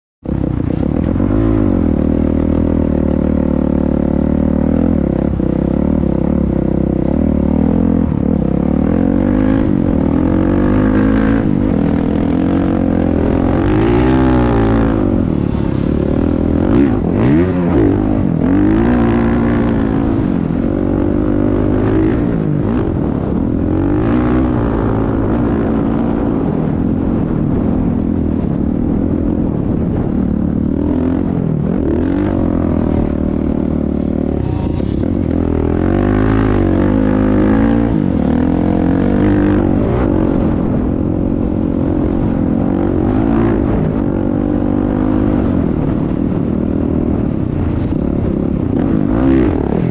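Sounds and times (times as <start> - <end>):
steady low drone: 0.2 - 49.9
dirt bike engines revving: 0.5 - 27.7, 28.4 - 49.9.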